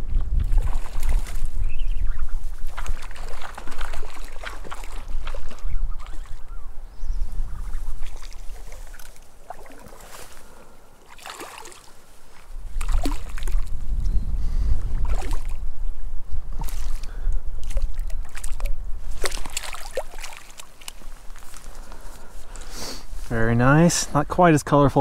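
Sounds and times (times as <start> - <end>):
water splashing: 0.0 - 6.7, 7.3 - 13.8, 14.8 - 15.7, 16.5 - 22.6.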